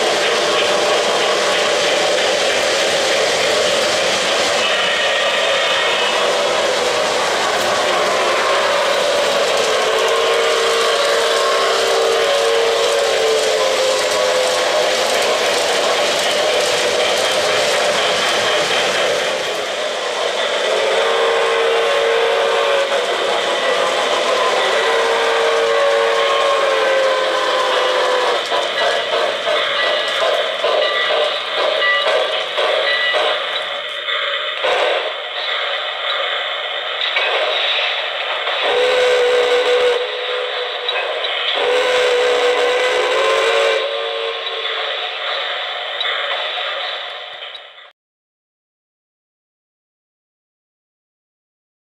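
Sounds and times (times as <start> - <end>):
chime steam whistle blasts: 0.0 - 47.5
model train running on track: 0.0 - 47.9.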